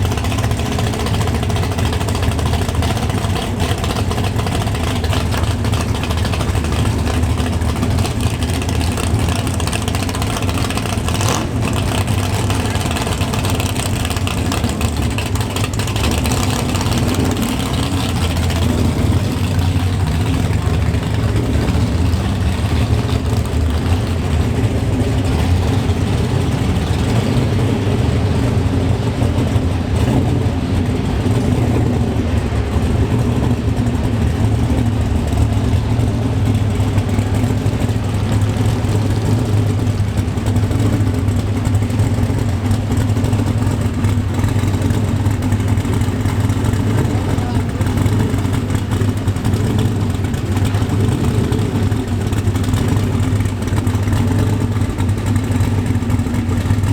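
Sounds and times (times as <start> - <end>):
engine and exhaust rumbling: 0.0 - 56.9.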